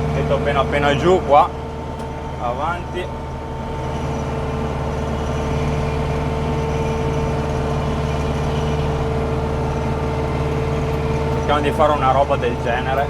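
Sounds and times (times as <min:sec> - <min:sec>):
flail mower whine: 0:00.0 - 0:13.0
tractor diesel engine running: 0:00.0 - 0:13.0.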